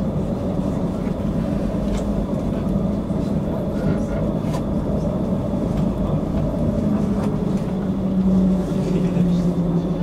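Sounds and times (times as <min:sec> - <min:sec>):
tram drive hum: 0:00.0 - 0:10.0
wheels rumbling on rails: 0:00.0 - 0:10.0.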